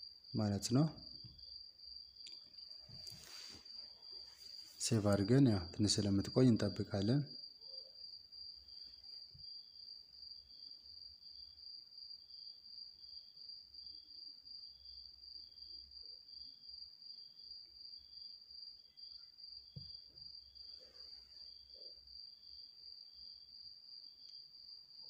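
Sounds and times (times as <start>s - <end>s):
high-pitched cricket chirping: 0.0s - 25.0s.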